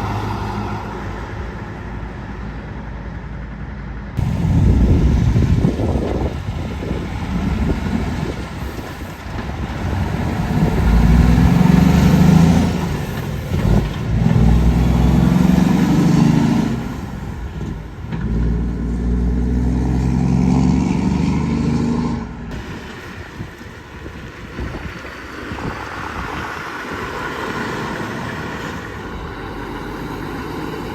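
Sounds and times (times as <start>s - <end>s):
vehicles passing: 0.0s - 30.9s.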